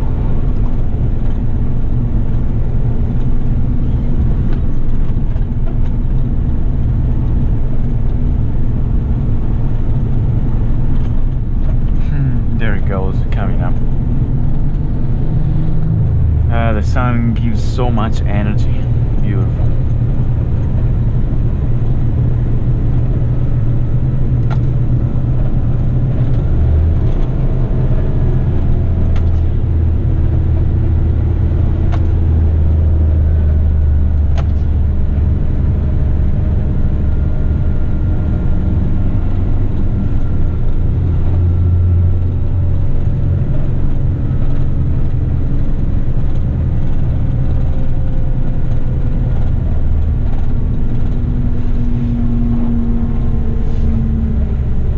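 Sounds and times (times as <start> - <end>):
truck engine and road rumble: 0.0 - 54.9.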